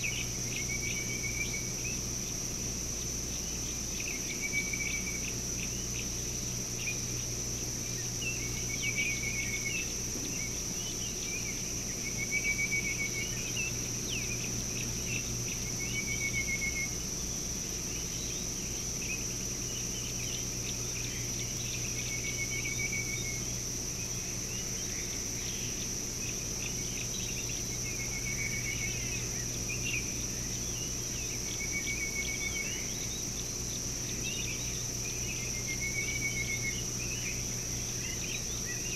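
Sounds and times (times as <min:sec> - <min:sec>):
high-pitched insect drone: 0:00.0 - 0:38.9
low steady hum: 0:00.0 - 0:38.9.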